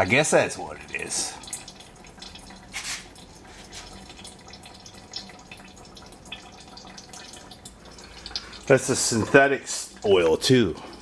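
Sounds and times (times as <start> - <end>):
fluid dripping and splattering: 0.0 - 11.0.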